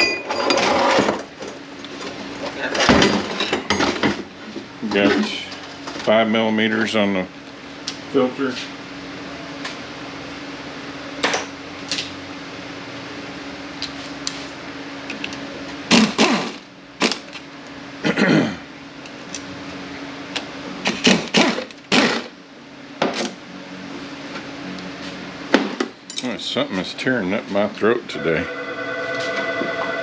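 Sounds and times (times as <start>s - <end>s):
low shop hum: 0.0s - 30.0s.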